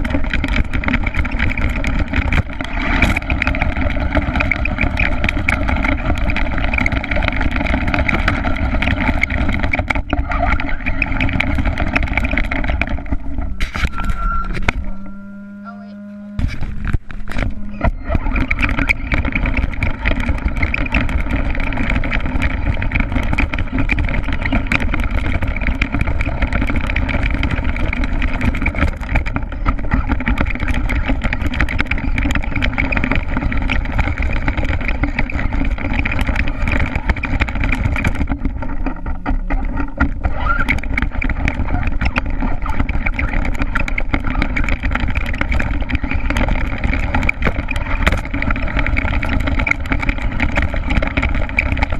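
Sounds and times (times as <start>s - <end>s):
jolts and rattles: 0.0s - 14.9s, 16.4s - 51.9s
rc truck motor drone: 0.0s - 51.9s.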